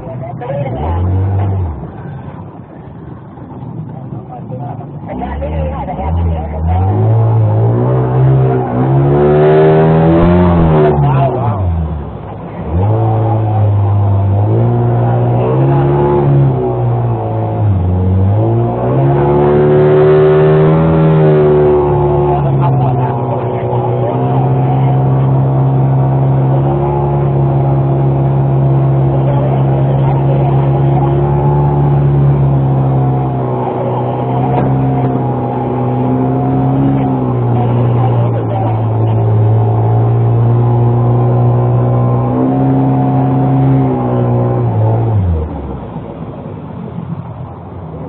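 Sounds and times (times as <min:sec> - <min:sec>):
boat motor droning: 0:00.0 - 0:48.0.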